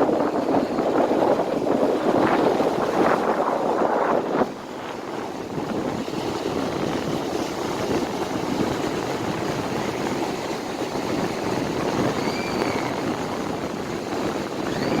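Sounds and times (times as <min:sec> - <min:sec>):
sea waves on the shore: 0:00.0 - 0:15.0
wind on the microphone: 0:00.0 - 0:15.0.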